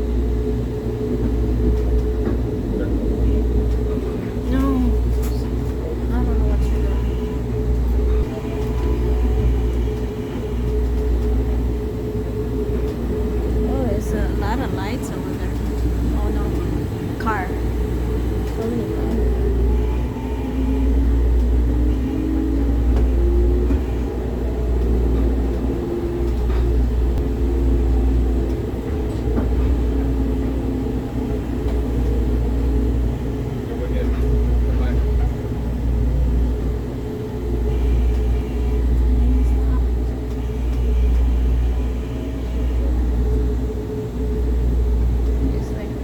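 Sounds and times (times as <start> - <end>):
steady hum: 0.0 - 46.0
train low rumble: 0.0 - 46.0.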